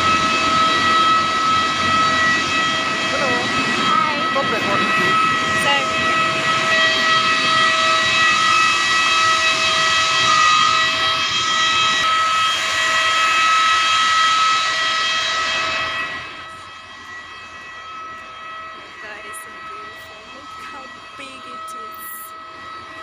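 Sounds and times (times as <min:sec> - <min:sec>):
jet turbine whine: 0:00.0 - 0:23.0.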